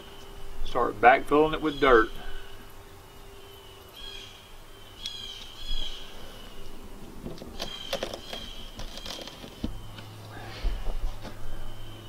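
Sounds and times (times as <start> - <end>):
birds calling: 0.0 - 12.0
faint steady hum: 0.0 - 12.0.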